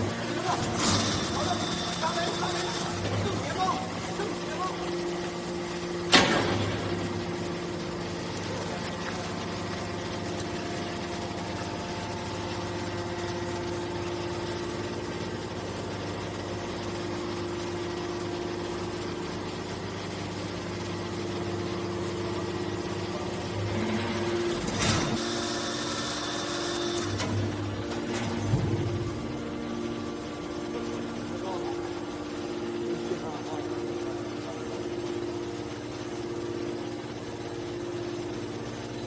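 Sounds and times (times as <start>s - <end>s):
hydraulic baler humming: 0.0s - 39.0s.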